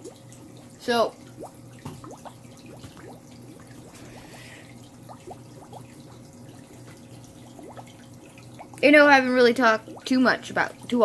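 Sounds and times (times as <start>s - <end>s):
water drops plinking into pond: 0.0s - 3.9s, 4.8s - 8.9s, 9.8s - 11.0s
steady low hum: 0.0s - 11.0s
water trickling: 0.0s - 11.0s.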